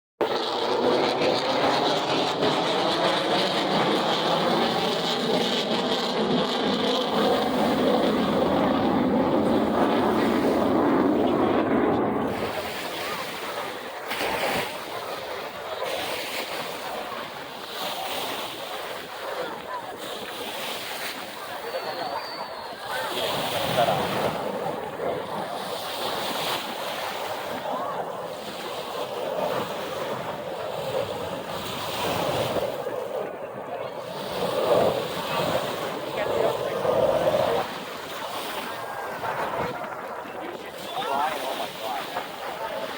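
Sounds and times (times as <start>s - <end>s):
wind buffeting microphone: 1.0s - 42.9s
ocean surf washing on beach: 7.1s - 42.9s.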